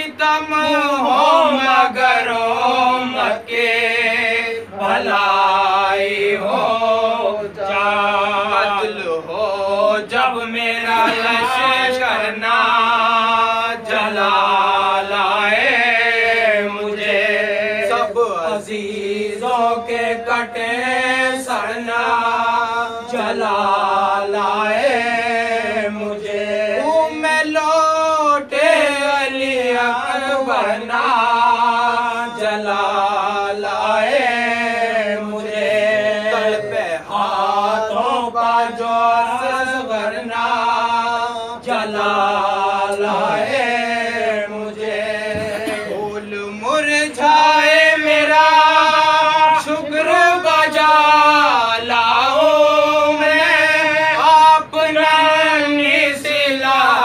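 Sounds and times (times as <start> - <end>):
young man chanting a lament: 0.0 - 57.0.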